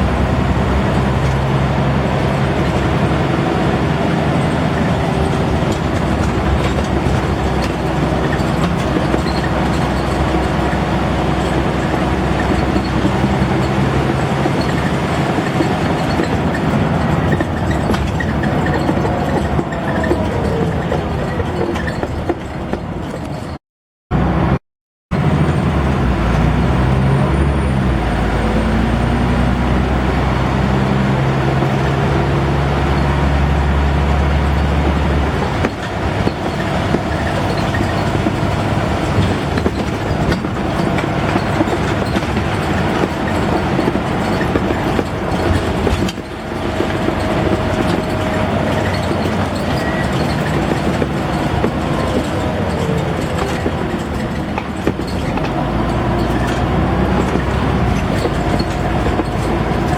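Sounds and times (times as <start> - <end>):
bus diesel engine pulling: 0.0 - 59.9
road and body rattle: 0.0 - 59.9.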